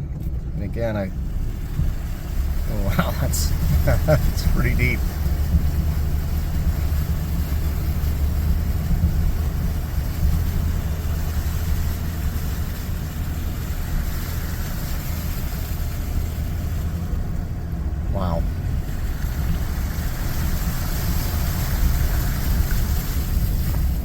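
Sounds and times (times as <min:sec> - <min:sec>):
truck engine rumbling: 0:00.0 - 0:24.0
wheels splashing through water: 0:00.0 - 0:24.0.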